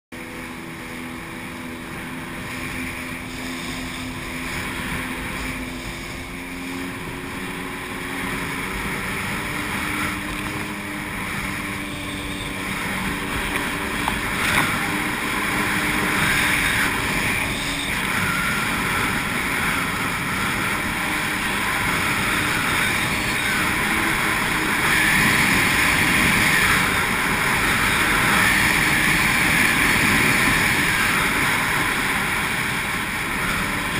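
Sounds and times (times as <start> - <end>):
water spray and wind rushing: 0.1 - 33.9
watercraft engine: 0.1 - 33.9.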